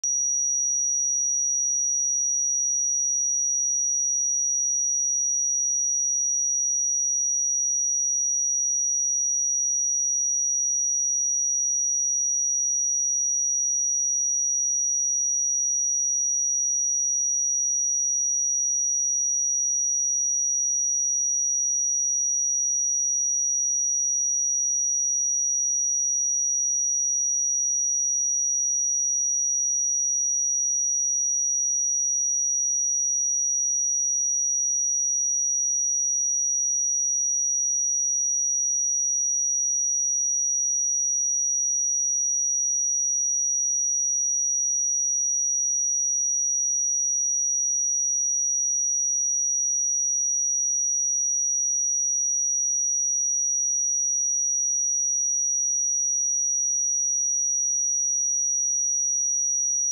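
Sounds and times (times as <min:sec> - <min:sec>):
high-pitched sine-wave test tone: 0:00.0 - 0:59.9.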